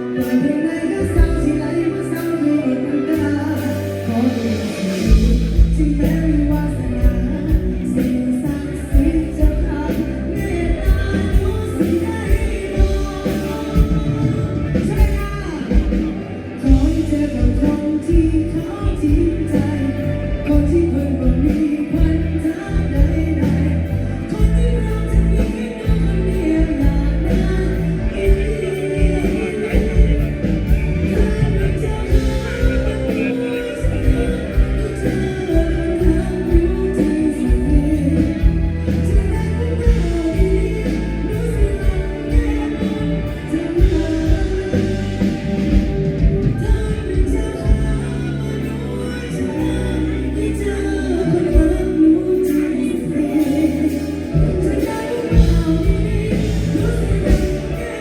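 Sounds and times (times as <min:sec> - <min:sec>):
live band music: 0:00.0 - 0:58.0
person singing: 0:00.0 - 0:58.0.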